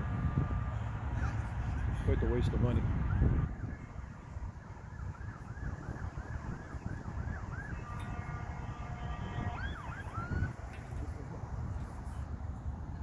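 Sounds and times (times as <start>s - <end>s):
emergency vehicle siren: 0.0s - 13.0s.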